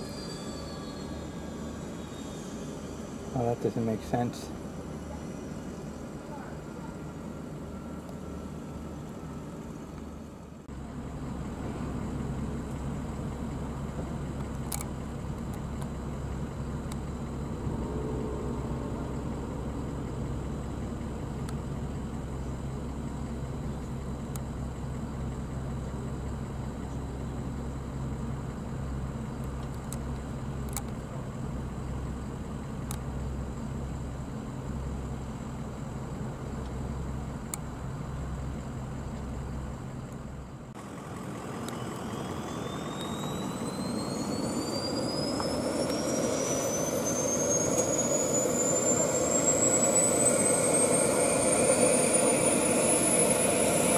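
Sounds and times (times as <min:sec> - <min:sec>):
vehicle engine idling: 0:02.7 - 0:53.9.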